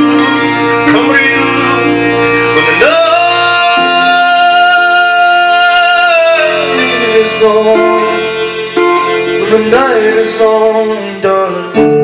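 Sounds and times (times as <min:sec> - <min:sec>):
man singing long wordless note: 0:00.0 - 0:12.0.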